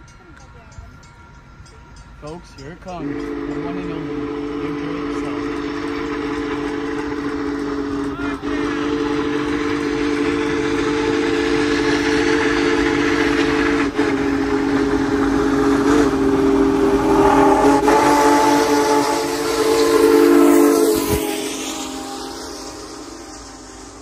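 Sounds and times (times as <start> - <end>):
steam locomotive chime whistle: 0.0 - 24.0
steam hissing: 1.5 - 24.0.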